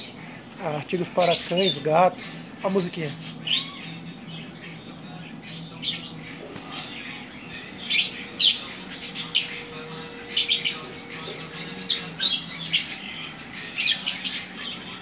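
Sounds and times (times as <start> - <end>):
birds chirping and squawking: 0.0 - 15.0
steady low hum: 0.0 - 15.0.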